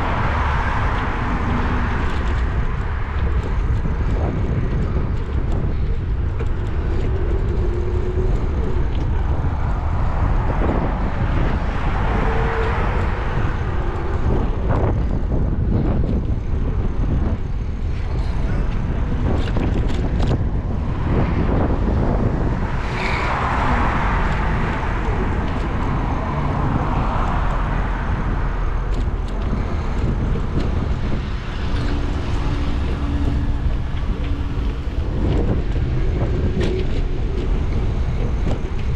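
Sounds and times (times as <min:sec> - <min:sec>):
car engine and road rumble: 0:00.0 - 0:38.9
passing traffic: 0:00.0 - 0:38.9.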